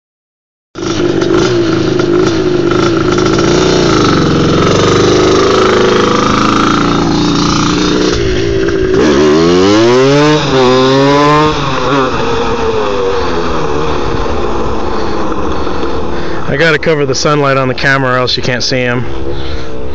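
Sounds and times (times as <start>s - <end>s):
two-stroke engine revving: 0.8s - 19.9s.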